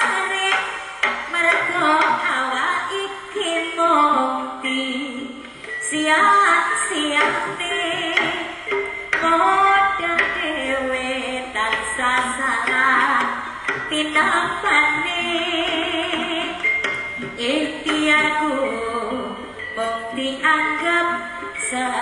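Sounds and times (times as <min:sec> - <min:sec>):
live traditional accompaniment music: 0:00.0 - 0:22.0.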